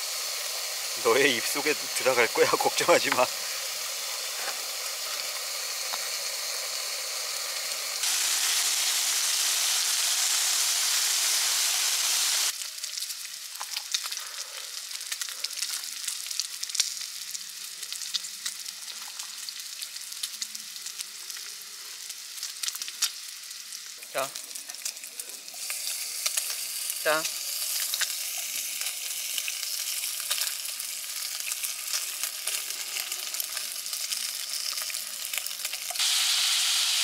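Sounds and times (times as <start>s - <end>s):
meat sizzling in a frying pan: 0.0s - 37.0s.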